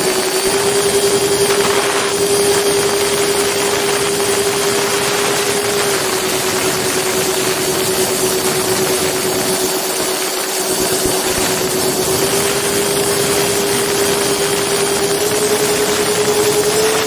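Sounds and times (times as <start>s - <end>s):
electric ducted fans whining: 0.0s - 17.0s.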